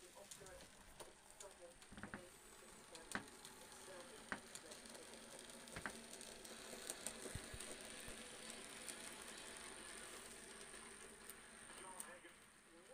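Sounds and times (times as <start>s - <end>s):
sharp clicks of model train: 0.0s - 12.9s.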